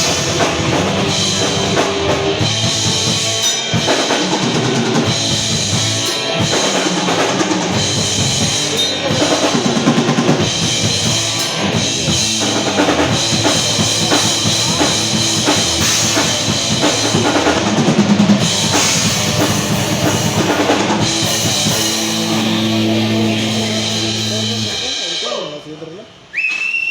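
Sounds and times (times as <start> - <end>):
fast bass drum and snare hits: 0.0 - 25.1
metal band playing: 0.0 - 26.2.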